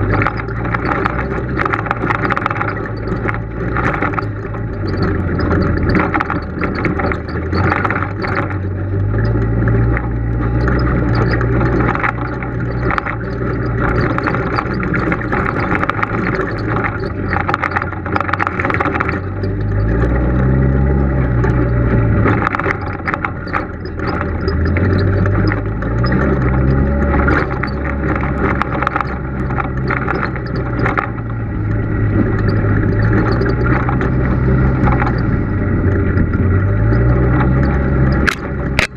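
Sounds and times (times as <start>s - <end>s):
knocks and rattles: 0.0s - 38.9s
off-road vehicle engine running: 0.0s - 38.9s.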